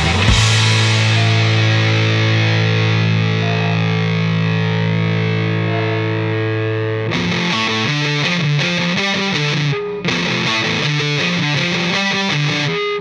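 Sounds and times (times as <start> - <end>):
rock music with distorted guitar: 0.0 - 13.0.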